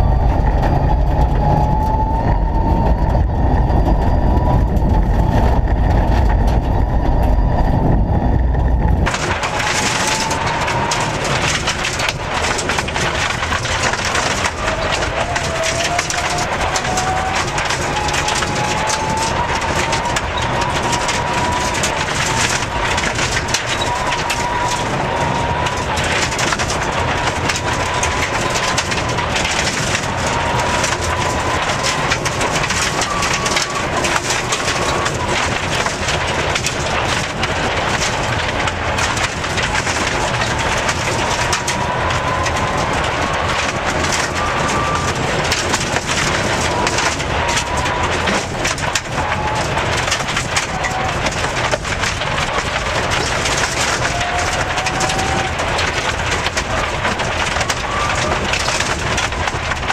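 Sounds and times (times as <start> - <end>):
gearbox whine: 0.0 - 59.9
gravel rattling against underside: 0.0 - 59.9
rally car engine running hard: 0.0 - 59.9.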